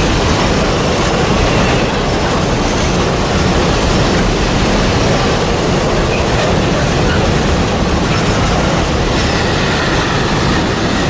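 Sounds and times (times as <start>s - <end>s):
train wheels on rail: 0.0s - 11.0s.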